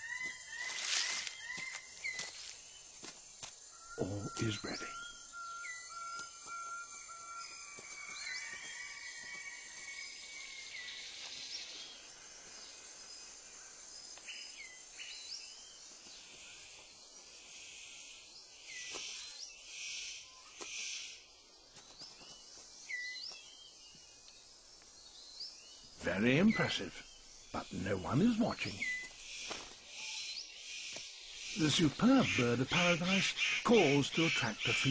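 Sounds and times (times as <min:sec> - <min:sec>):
high insect drone: 0:00.0 - 0:34.9.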